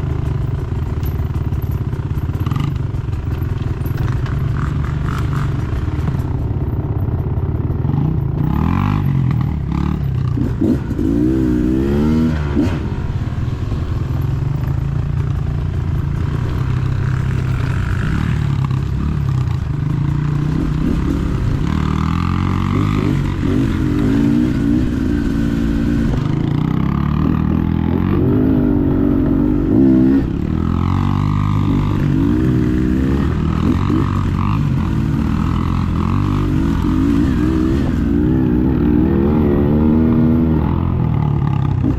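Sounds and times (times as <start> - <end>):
bike rattling: 0.0 - 41.9
dirt bike engine revving: 7.8 - 41.9.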